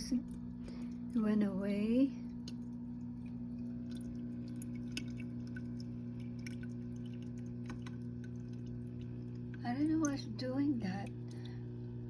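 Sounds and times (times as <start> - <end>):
aquarium filter pump humming: 0.0 - 12.0
faint water drips and trickles: 0.0 - 12.0.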